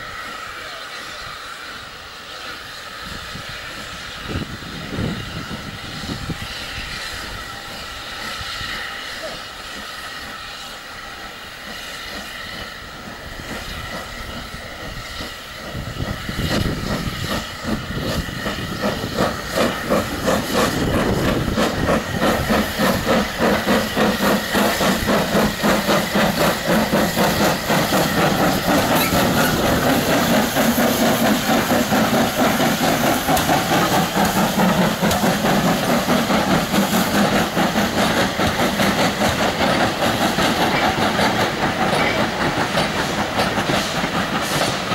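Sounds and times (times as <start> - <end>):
hiss of steam: 0.0 - 44.9
steam locomotive chuffing: 0.0 - 44.9.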